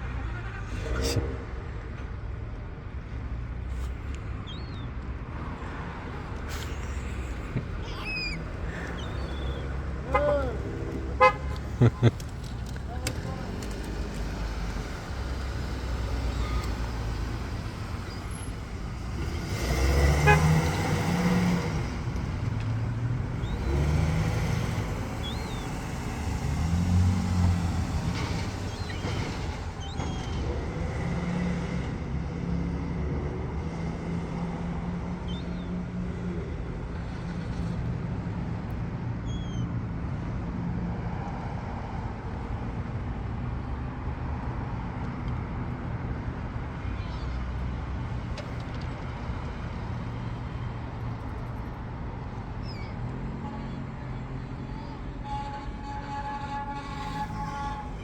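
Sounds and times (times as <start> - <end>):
vehicle engines in traffic: 0.0 - 58.0.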